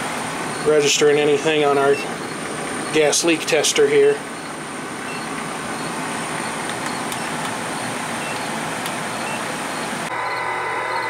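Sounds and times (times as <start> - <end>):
gas furnace rushing: 0.0 - 11.0.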